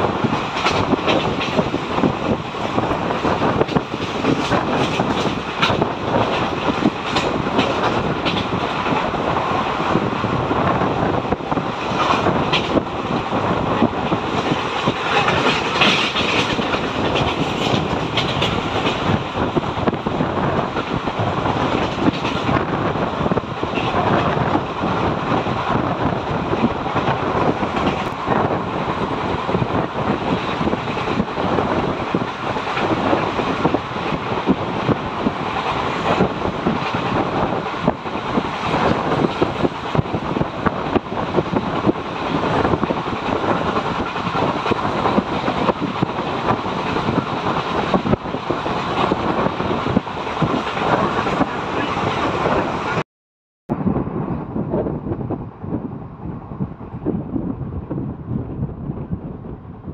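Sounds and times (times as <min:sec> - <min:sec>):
rushing air: 0:00.0 - 0:53.0, 0:53.7 - 0:59.9
train wheels rumbling on rails: 0:00.0 - 0:53.0
clatter over rail joints: 0:00.1 - 0:52.0.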